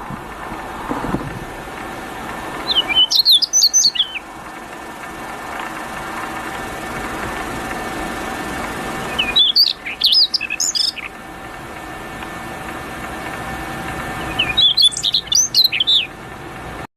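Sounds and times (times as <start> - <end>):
steady background hum: 0.0 - 16.9
songbird singing: 1.6 - 16.8.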